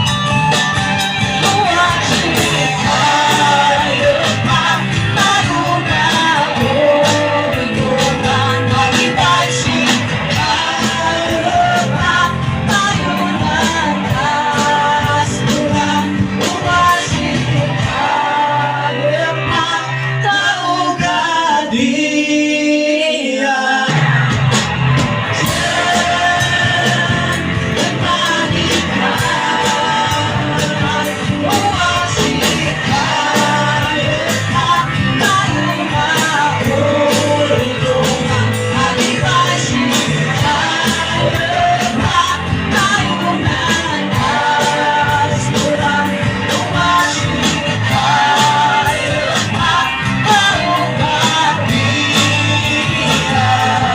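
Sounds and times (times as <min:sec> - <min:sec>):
live rock band playing: 0:00.0 - 0:22.9, 0:23.7 - 0:53.9
person singing: 0:00.0 - 0:24.5, 0:25.4 - 0:53.9.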